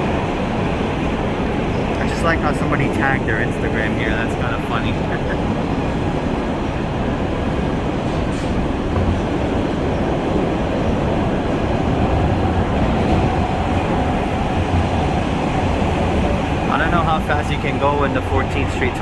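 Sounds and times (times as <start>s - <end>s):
subway wheels rumbling on rail: 0.0s - 19.0s.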